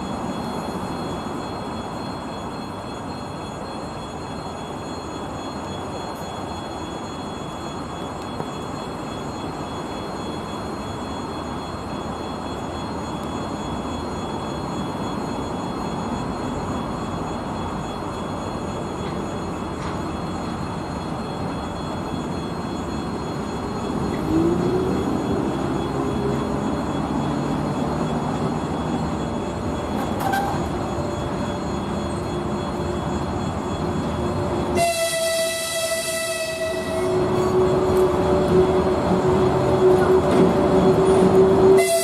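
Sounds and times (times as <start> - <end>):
electric locomotive rumble and whine: 0.0 - 42.0
loud locomotive tone: 0.0 - 42.0.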